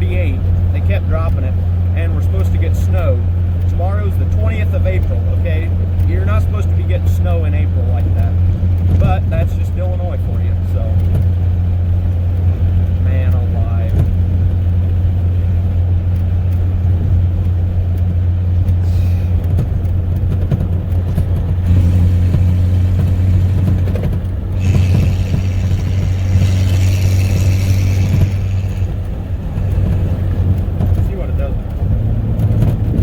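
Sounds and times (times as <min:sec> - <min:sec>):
deep exhaust rumble: 0:00.0 - 0:33.0
wind and road noise hiss: 0:00.0 - 0:33.0.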